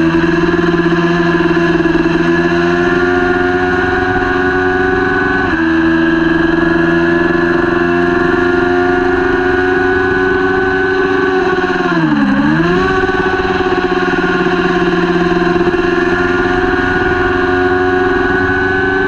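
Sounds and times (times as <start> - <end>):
motorcycle engine revving high: 0.0 - 19.0.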